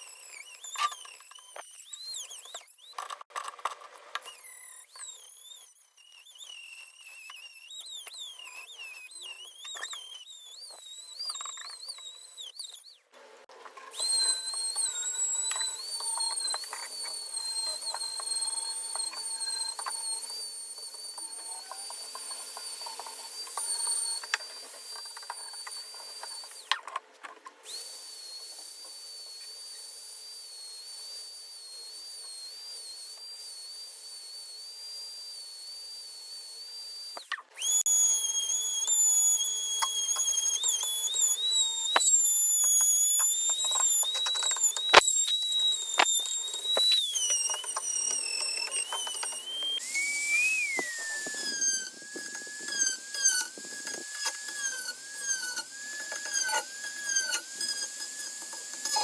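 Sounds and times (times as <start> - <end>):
high-speed power tool whining: 0.0 - 59.0.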